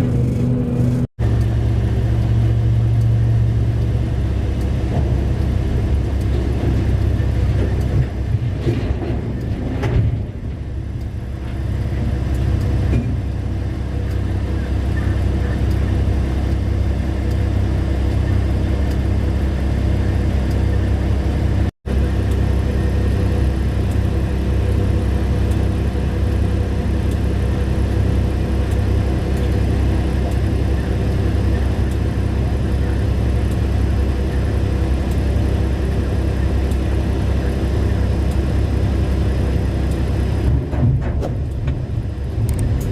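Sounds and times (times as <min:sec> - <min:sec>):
diesel engine deep rumble: 0:00.0 - 0:42.9.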